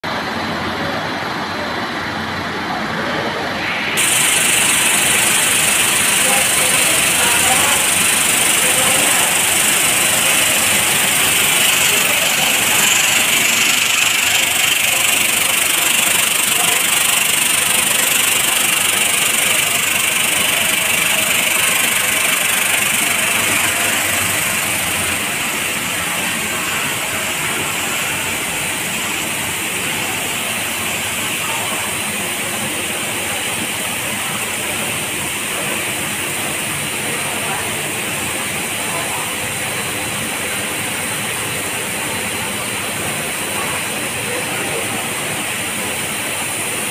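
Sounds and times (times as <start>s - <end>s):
production line machine hissing: 3.5s - 46.9s.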